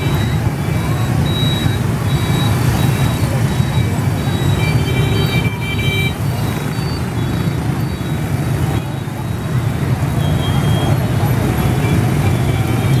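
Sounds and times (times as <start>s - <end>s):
motorbikes and scooters passing: 0.0s - 13.0s.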